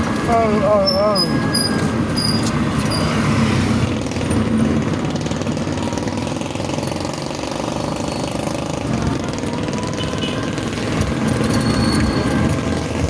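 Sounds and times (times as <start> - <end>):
electric cart rattling while running: 0.0 - 13.0.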